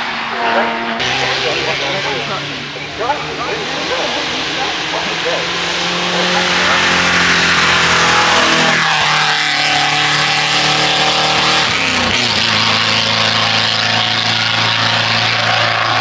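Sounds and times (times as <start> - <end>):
car engine revving high: 0.0 - 16.0.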